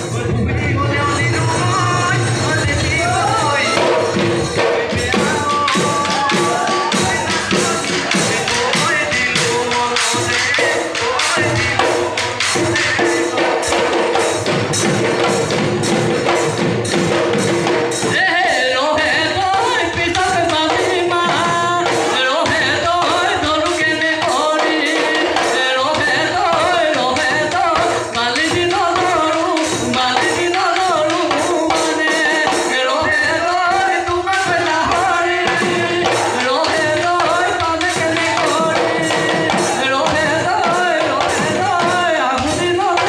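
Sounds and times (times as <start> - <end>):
drums beaten in fast rhythm: 0.0 - 43.0
people singing: 0.0 - 43.0.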